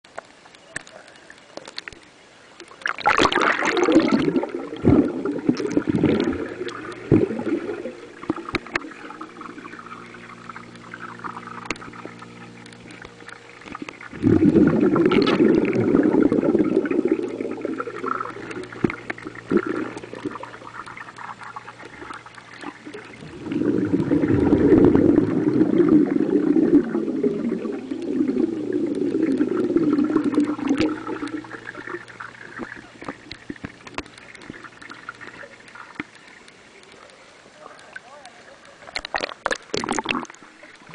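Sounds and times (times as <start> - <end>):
faint low hum: 0.1 - 40.9
underwater air bubbles gurgling: 2.7 - 37.0, 38.6 - 40.9.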